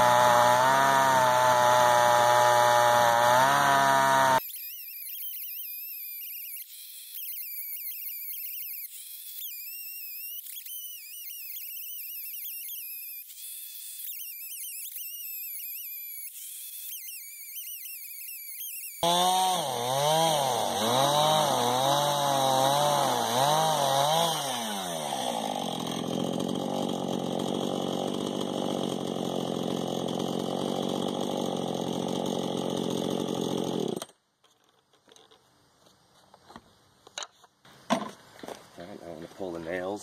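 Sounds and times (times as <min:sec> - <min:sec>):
chainsaw cutting log: 0:00.0 - 0:34.2.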